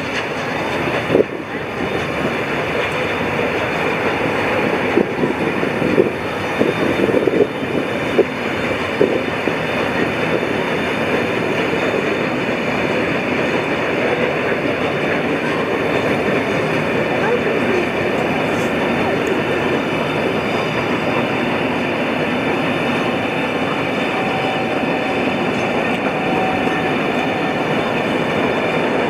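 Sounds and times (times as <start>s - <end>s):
train wheel clicks: 0.0s - 24.7s
train rumbling on track: 0.0s - 29.0s.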